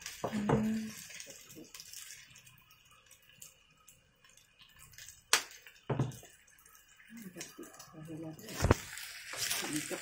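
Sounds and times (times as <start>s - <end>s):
faint sizzle: 0.0s - 10.0s.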